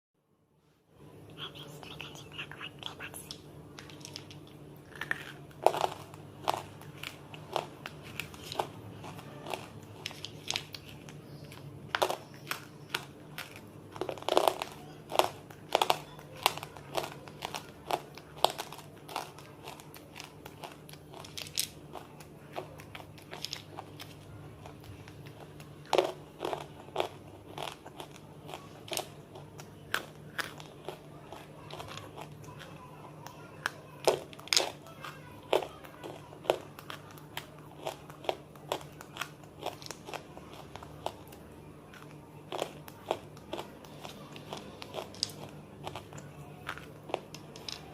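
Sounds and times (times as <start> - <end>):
crunchy chewing: 3.8 - 47.9.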